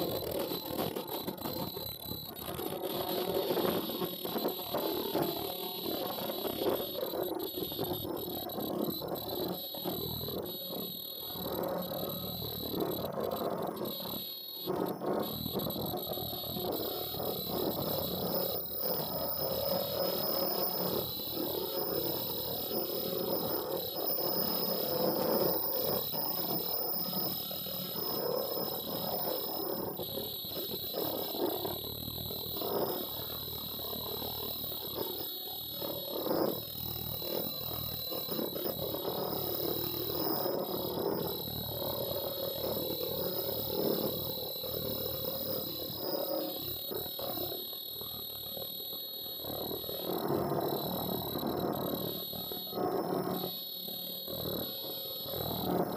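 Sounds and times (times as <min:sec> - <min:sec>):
high-pitched machine whine: 0:00.0 - 0:55.9.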